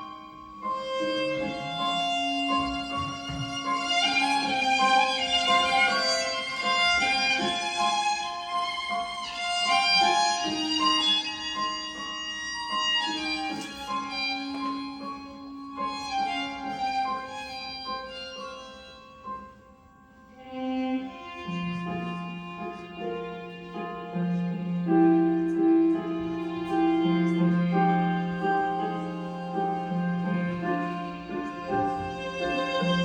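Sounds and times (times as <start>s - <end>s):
slow violin melody: 0.0s - 33.0s.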